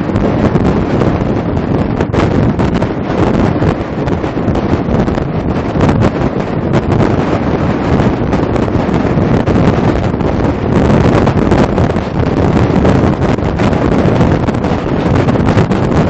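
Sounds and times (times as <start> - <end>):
truck rumbling on road: 0.0 - 16.0
wind buffeting microphone: 0.0 - 16.0.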